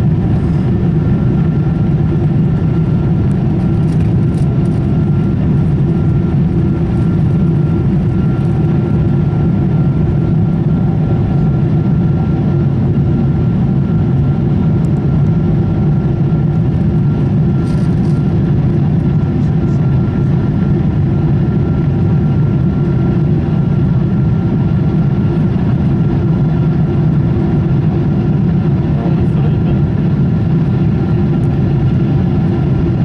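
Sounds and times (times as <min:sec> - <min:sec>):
jet engine rumble and rushing air: 0:00.0 - 0:33.0.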